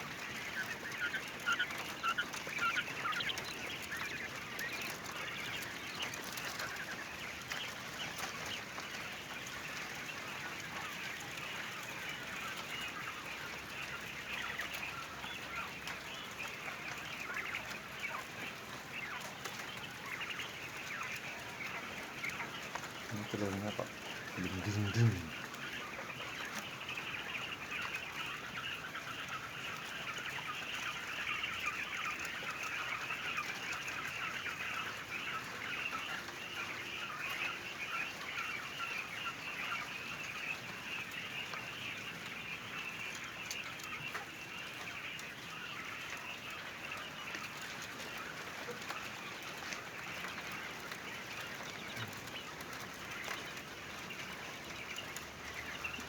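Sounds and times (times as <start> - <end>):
quail calling and chirping: 0.0 - 56.0.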